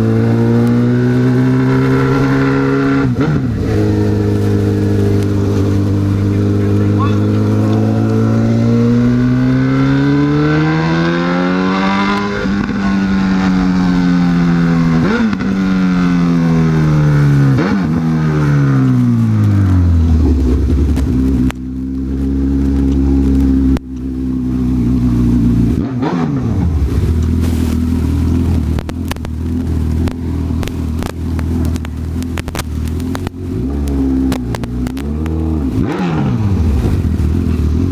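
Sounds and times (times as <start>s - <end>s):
motorcycle engine: 0.0s - 37.9s.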